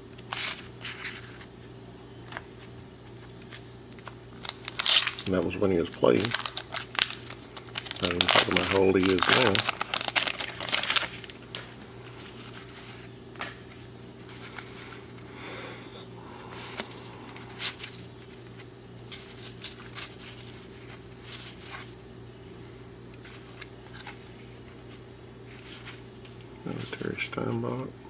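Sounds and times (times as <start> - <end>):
steady low hum: 0.0 - 28.0
cards flicking and rustling: 0.2 - 15.3, 16.5 - 22.0, 23.2 - 27.1.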